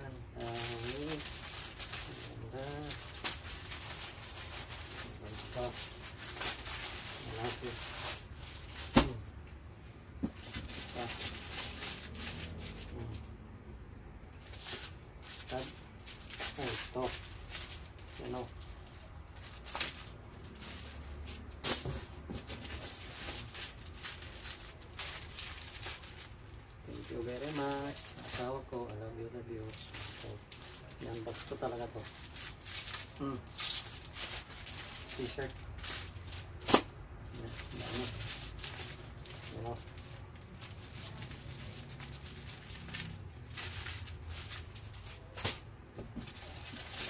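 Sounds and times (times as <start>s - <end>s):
plastic packaging crinkling: 0.0s - 9.3s, 10.2s - 13.2s, 14.4s - 47.0s
low steady hum: 0.0s - 47.0s.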